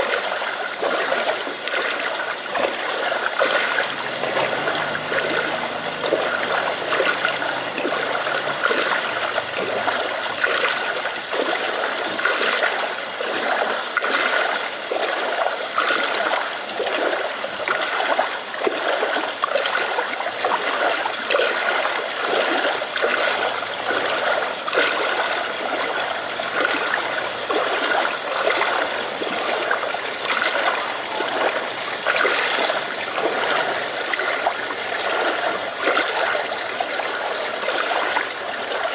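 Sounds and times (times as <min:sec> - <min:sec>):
rainwater trickling and splashing: 0:00.0 - 0:38.9.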